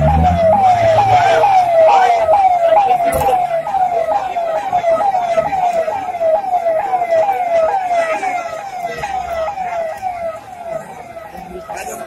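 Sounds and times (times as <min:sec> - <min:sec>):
ambulance siren wailing: 0:00.0 - 0:12.0.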